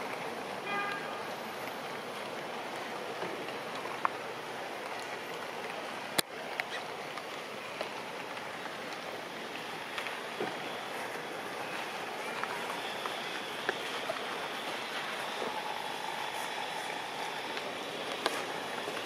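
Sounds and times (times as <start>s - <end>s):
falling rain: 0.0s - 19.0s.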